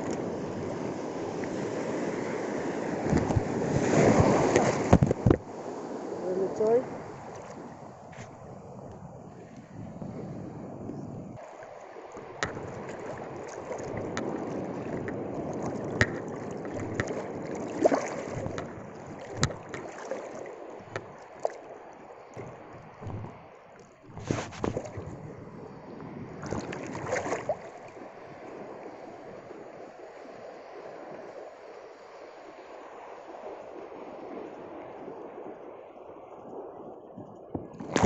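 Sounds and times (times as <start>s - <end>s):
wind on microphone: 0.0s - 11.4s, 12.2s - 19.8s, 22.4s - 30.3s, 33.4s - 38.0s
sea waves surging and sloshing: 0.0s - 38.0s.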